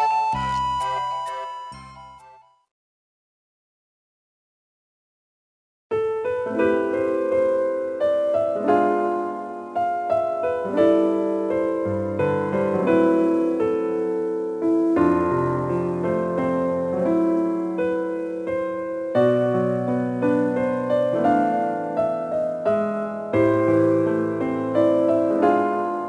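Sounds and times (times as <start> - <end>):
gentle piano music: 0.0 - 2.6, 5.9 - 26.0.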